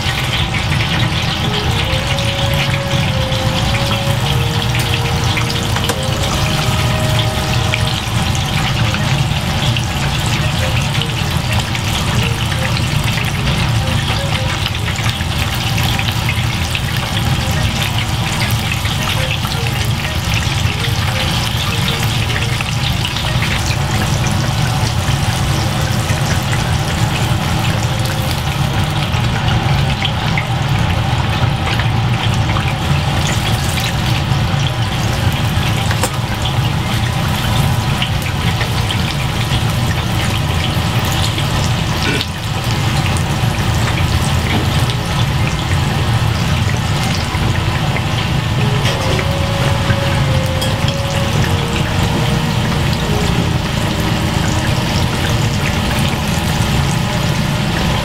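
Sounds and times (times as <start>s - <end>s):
food deep-frying in oil: 0.0s - 58.0s.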